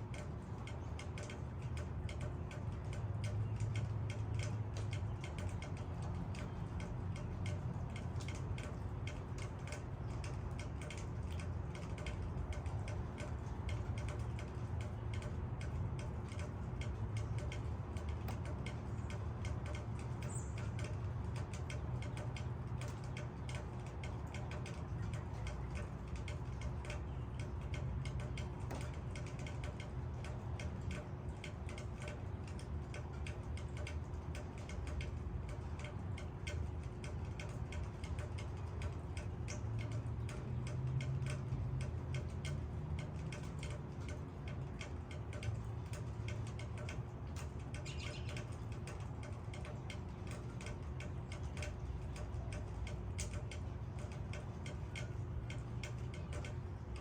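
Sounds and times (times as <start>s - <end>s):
low rumble of rain: 0.0s - 57.0s
raindrops pattering on leaves: 0.0s - 57.0s.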